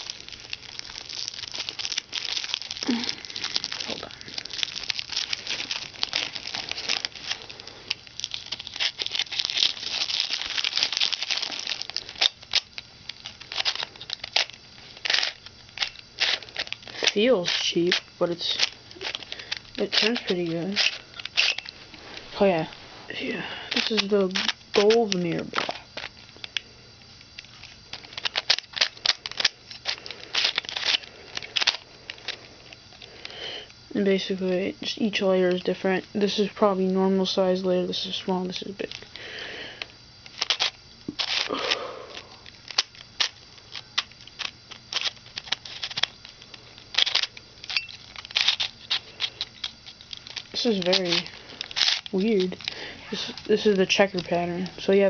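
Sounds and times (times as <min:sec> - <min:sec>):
scissors cutting plastic: 0:00.0 - 0:21.8, 0:23.7 - 0:26.6, 0:27.3 - 0:32.4, 0:39.8 - 0:41.8, 0:42.4 - 0:55.0
plastic wrapping crinkling: 0:00.0 - 0:55.0.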